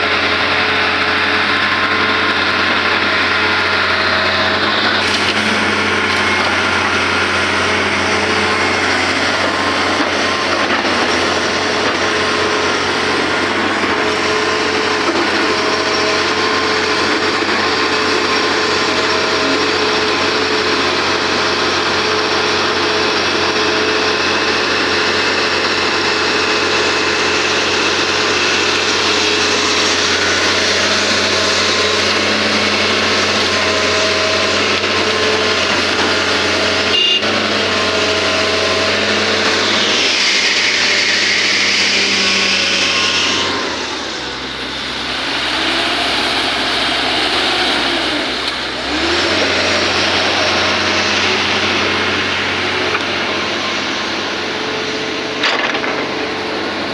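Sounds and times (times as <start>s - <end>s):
constant machine whine: 0.0s - 56.9s
excavator diesel engine running: 0.0s - 56.9s.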